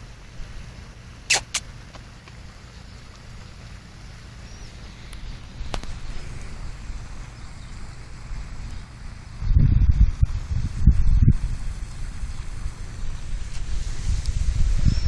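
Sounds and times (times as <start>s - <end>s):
wind rumbling on microphone: 1.6s - 15.0s.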